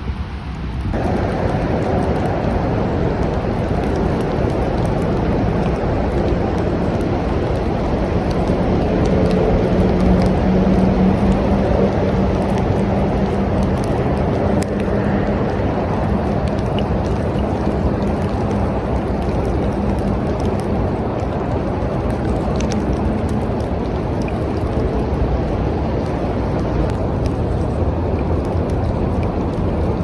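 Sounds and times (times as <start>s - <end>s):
steady rain: 0.0s - 30.0s
rain drop ticks: 0.4s - 30.0s.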